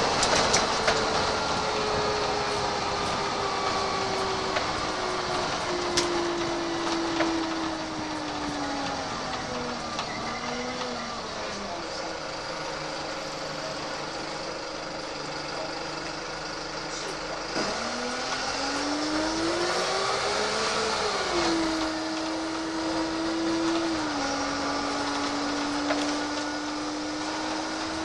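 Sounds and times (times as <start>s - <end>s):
bus engine pulling away: 0.0s - 28.0s.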